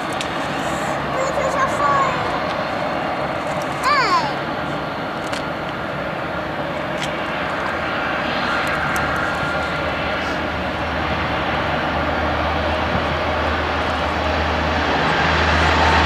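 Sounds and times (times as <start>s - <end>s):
aircraft engine noise: 0.0s - 16.0s.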